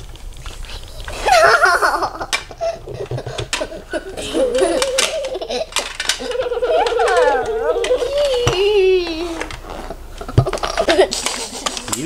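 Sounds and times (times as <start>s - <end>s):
children giggling and laughing: 1.2s - 9.4s, 10.2s - 11.8s.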